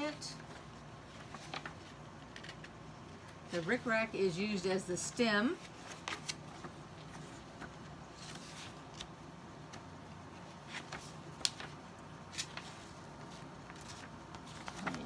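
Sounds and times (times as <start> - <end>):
faint low room hum: 0.0 - 15.0
paper pages rustling: 0.4 - 3.8, 5.5 - 15.0.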